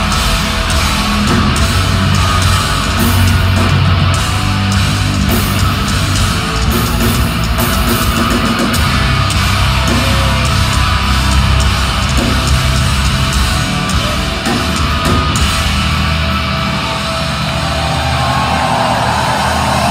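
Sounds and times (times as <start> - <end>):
bass: 0.0 - 19.9
distorted guitars: 0.0 - 19.9
drums pounding: 0.0 - 19.9.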